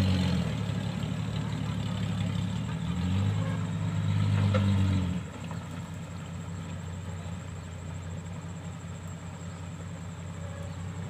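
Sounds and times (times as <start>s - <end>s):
truck engine working hard: 0.0s - 11.0s.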